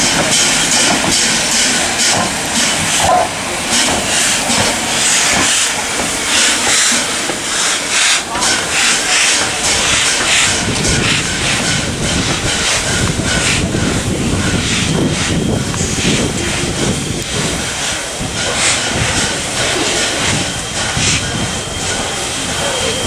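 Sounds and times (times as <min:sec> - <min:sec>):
steam locomotive hissing beats: 0:00.0 - 0:23.0.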